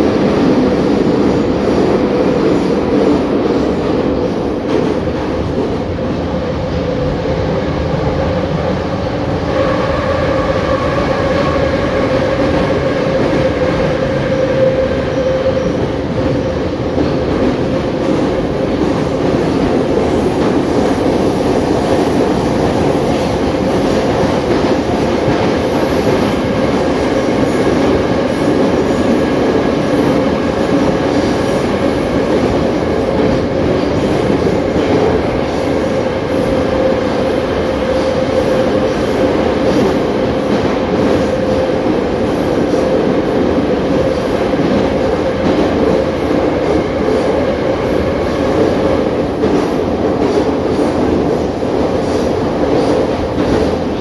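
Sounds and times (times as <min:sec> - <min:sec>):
metro wheels rumbling on rails: 0:00.0 - 0:54.0.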